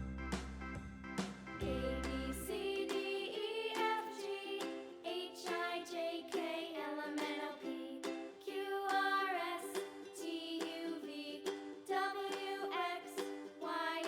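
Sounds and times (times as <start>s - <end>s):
children's song with ukulele strumming: 0.0s - 14.0s.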